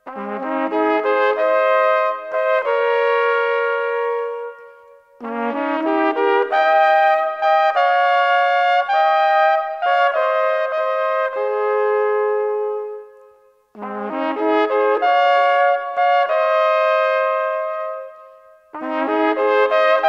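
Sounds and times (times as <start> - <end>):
brass folk melody in harmony: 0.0 - 20.0.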